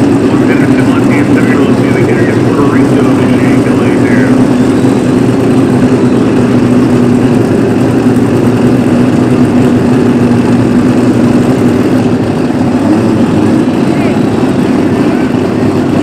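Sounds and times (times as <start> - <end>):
car engines idling loud: 0.0 - 16.0.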